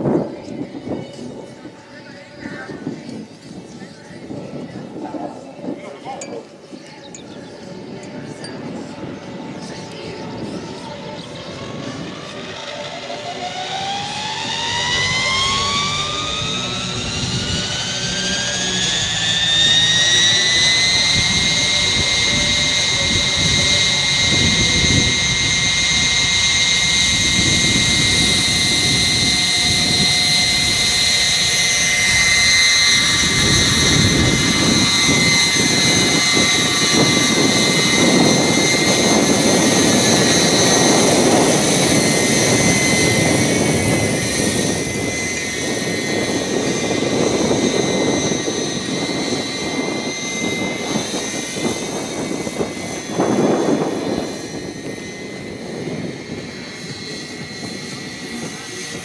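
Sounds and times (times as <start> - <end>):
gas turbine whine: 0.0 - 59.0
helicopter rotor rushing: 0.0 - 59.0.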